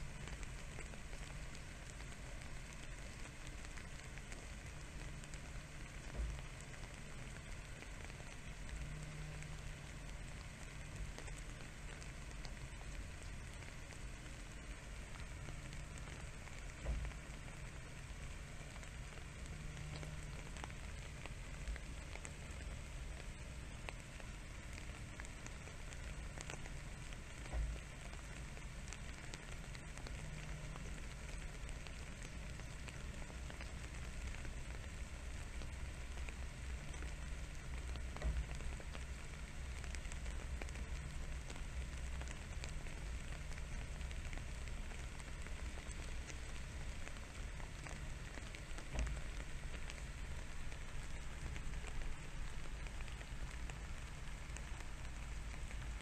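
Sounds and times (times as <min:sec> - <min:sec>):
light rain pattering on leaves: 0:00.0 - 0:56.0.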